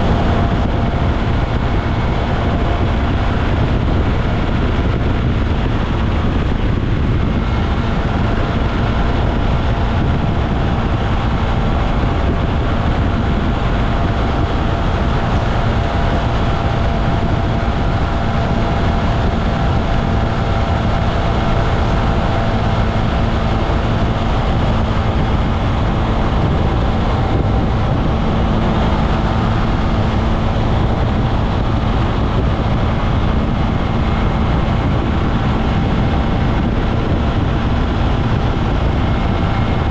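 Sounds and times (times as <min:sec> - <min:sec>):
scooter engine drone: 0:00.0 - 0:39.9
wind rush: 0:00.0 - 0:39.9.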